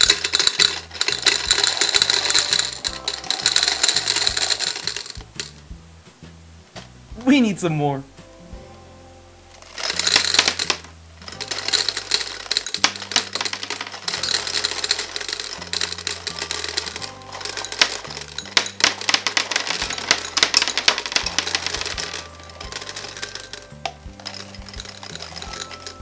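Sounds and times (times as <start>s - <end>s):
gumballs clattering into glass: 0.0s - 5.6s, 9.6s - 26.0s.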